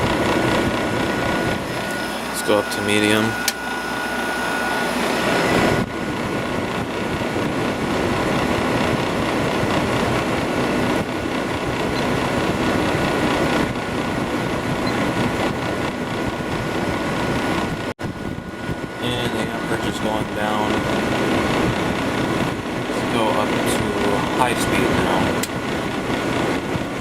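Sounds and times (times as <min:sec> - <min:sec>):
air conditioner running: 0:00.0 - 0:27.0.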